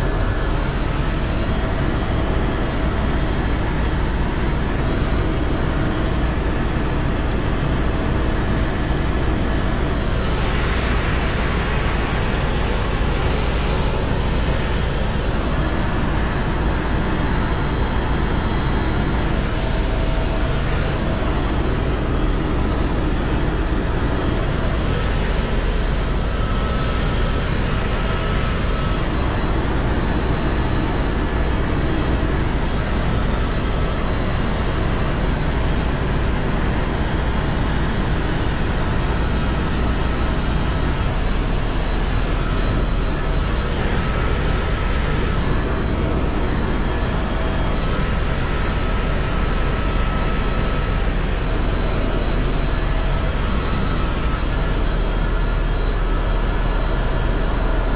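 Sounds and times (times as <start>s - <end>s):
helicopter engine and rotor: 0.0s - 57.9s.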